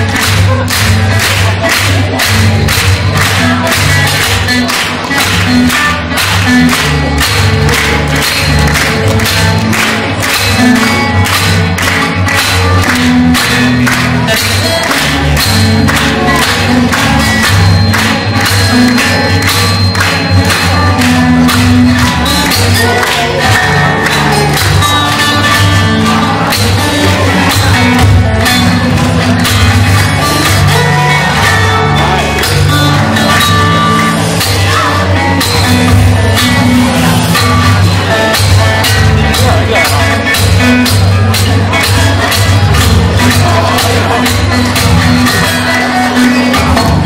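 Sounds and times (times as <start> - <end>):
fingerstyle acoustic guitar: 0.0 - 47.0.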